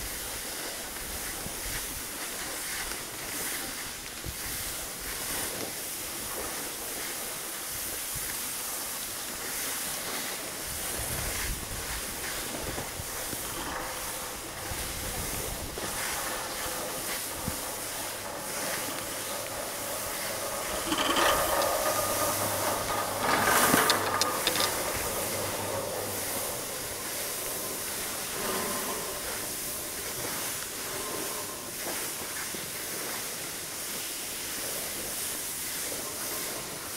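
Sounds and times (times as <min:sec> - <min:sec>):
skis scraping over packed snow: 0:00.0 - 0:36.9.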